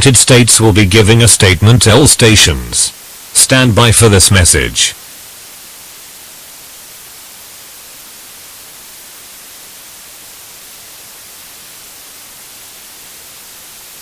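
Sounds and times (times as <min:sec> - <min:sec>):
steady static hiss: 0:00.0 - 0:14.0.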